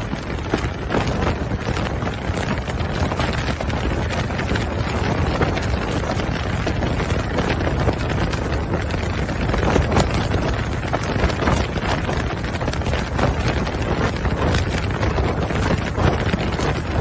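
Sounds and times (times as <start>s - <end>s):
crackles and pops: 0.0s - 17.0s
wind buffeting microphone: 0.0s - 17.0s.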